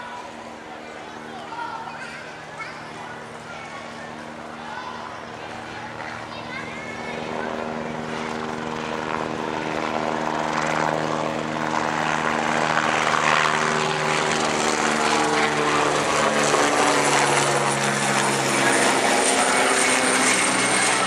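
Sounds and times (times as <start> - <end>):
helicopter rotor and engine drone: 0.0 - 21.0.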